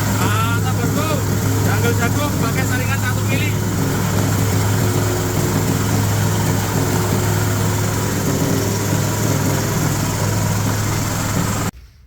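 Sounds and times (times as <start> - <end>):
diesel engine hum: 0.0 - 11.7
mill grinding hiss: 0.0 - 11.7.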